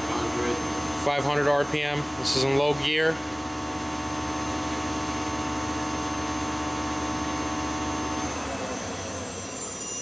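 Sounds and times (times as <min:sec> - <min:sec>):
lathe spindle humming: 0:00.0 - 0:10.0.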